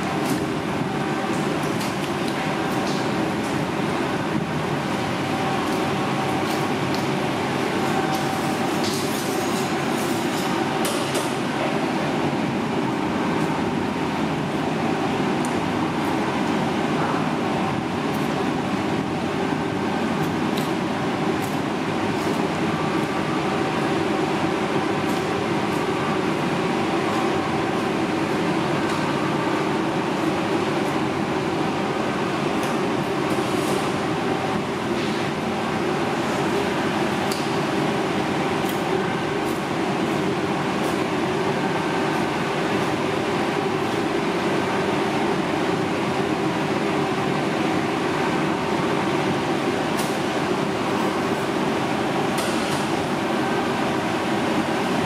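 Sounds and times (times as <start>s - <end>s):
ventilation machinery drone: 0.0s - 55.0s.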